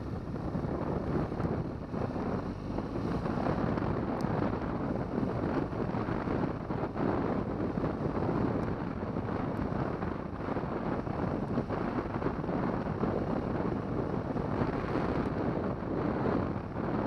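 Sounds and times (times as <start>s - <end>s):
motorcycle engine running: 0.0s - 17.0s
wind rumbling on microphone: 0.0s - 17.0s.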